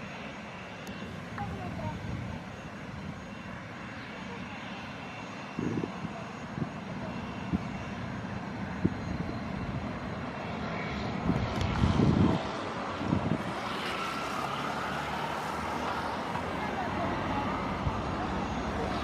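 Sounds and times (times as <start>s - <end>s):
jet engines at taxi power: 0.0s - 19.0s.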